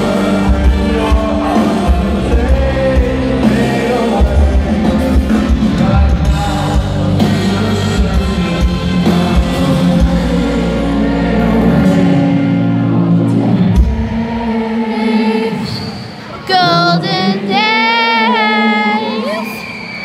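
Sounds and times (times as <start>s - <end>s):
live pop-rock band: 0.0s - 20.0s.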